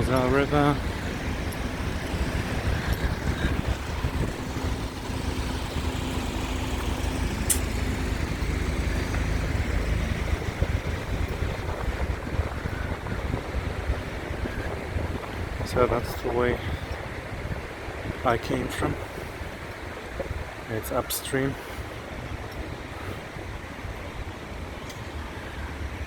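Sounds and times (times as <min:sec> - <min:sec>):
large vehicle engine hum: 0:00.0 - 0:26.0
traffic rumble on bridge: 0:00.0 - 0:26.0.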